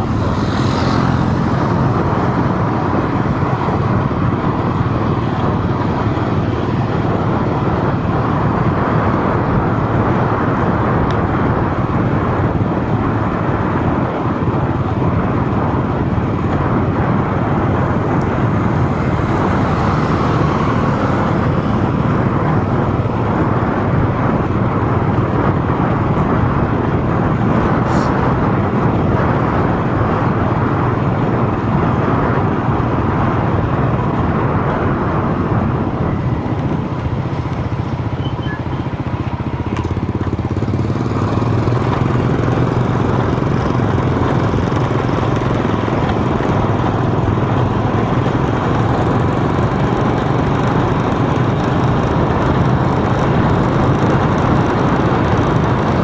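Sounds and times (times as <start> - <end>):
vehicle engine and tyre noise: 0.0 - 56.0.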